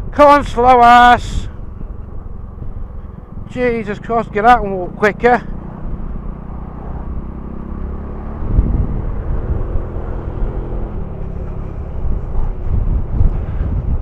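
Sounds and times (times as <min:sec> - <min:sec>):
low wind rumble: 0:00.0 - 0:14.0
scooter engine running: 0:01.5 - 0:14.0.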